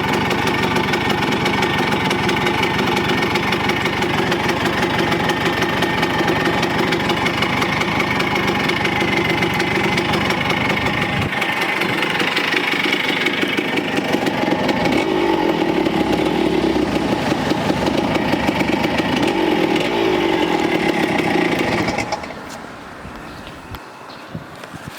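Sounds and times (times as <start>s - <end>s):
two-stroke motorcycle engine revving: 0.0s - 22.5s.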